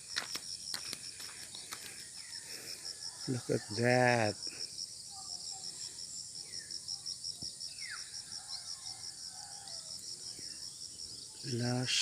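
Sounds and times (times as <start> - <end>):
high insect hiss: 0.0 - 12.0
insects chirping in rapid pulse: 0.0 - 12.0.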